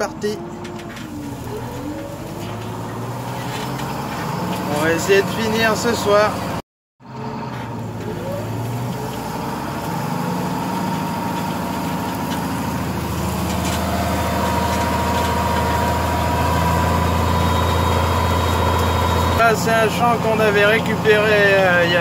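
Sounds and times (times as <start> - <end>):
tractor diesel engine pulling plough: 0.0 - 22.0.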